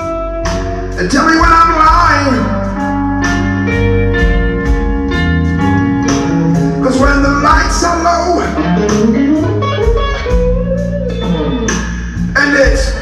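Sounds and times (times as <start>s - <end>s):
bass guitar: 0.0s - 13.0s
drums: 0.0s - 13.0s
electric guitar lead: 0.0s - 13.0s.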